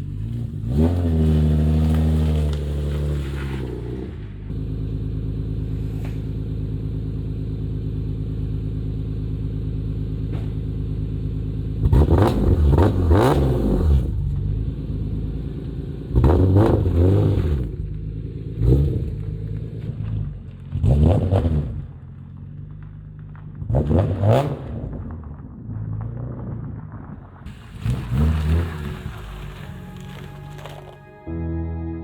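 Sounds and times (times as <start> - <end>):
car engine idling: 0.0 - 13.3, 13.9 - 21.1, 21.7 - 23.7, 24.8 - 32.0.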